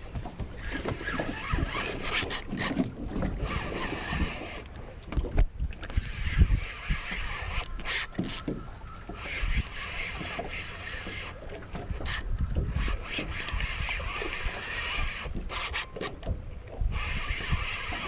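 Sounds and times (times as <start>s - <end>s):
water slapping against boat: 0.0s - 18.0s
wind buffeting microphone: 0.0s - 18.0s.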